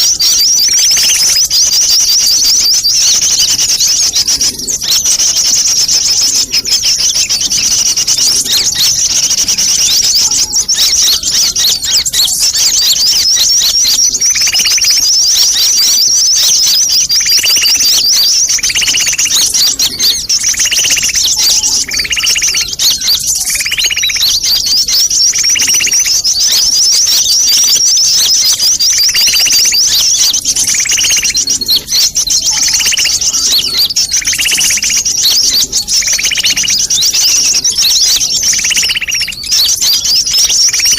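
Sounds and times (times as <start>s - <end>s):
high-pitched bird twittering: 0.0s - 40.9s.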